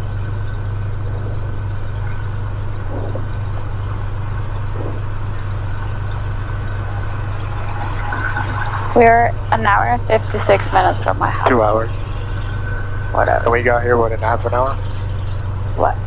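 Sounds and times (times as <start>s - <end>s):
piston engine idling drone: 0.0s - 16.0s.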